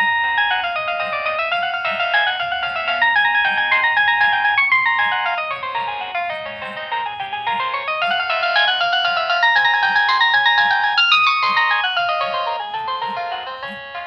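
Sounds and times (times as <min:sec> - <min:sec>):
synthesized ringtone melody: 0:00.0 - 0:14.0.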